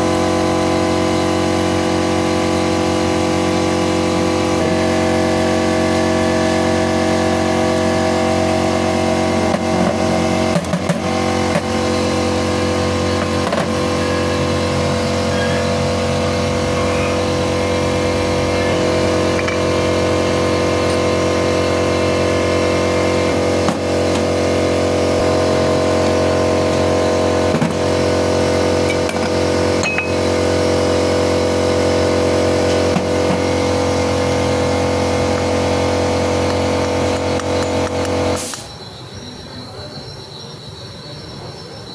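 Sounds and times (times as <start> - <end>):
car engine running with whine: 0.0 - 38.8.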